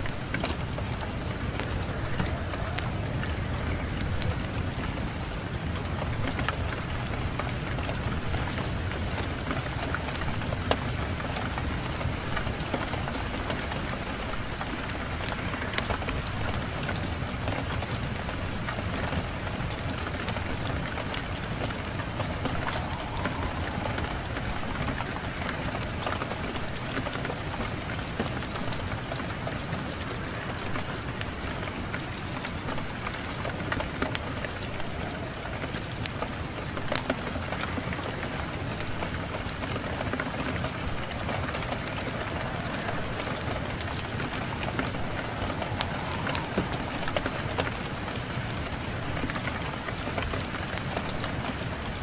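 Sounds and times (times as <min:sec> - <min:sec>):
wind rushing: 0:00.0 - 0:18.2, 0:19.2 - 0:36.9, 0:40.5 - 0:49.4
fire crackling and popping: 0:00.0 - 0:52.0.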